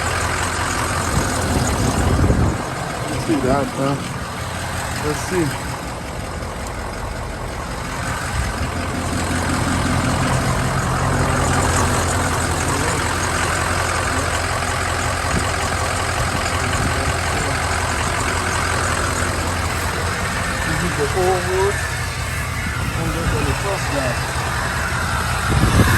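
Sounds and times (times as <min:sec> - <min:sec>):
van engine idling: 0:00.0 - 0:25.9.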